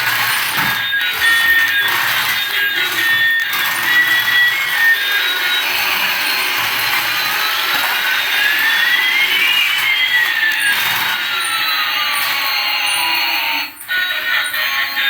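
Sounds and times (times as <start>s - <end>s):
toy motor whirring: 0.0s - 15.0s.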